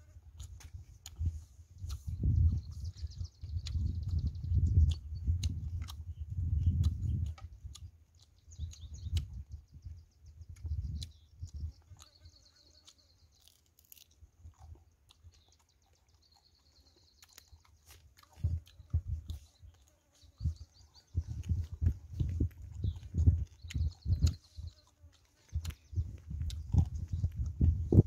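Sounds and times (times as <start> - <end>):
person chewing crunchy food: 0.0 - 9.7, 10.5 - 28.0.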